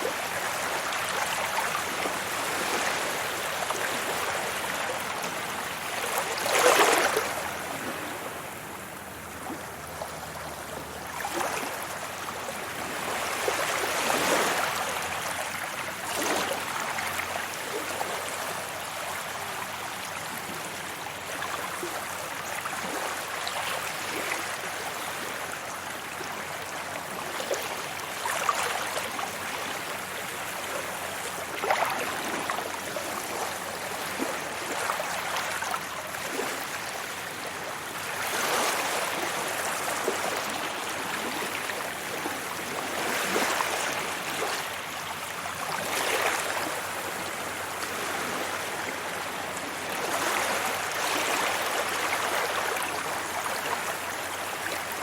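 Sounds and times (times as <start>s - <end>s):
sea waves breaking on beach: 0.0s - 55.0s.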